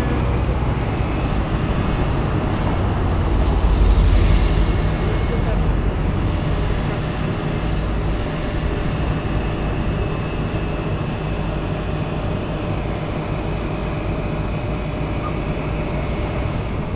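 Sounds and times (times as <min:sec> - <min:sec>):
fire engine rumbling: 0:00.0 - 0:16.9.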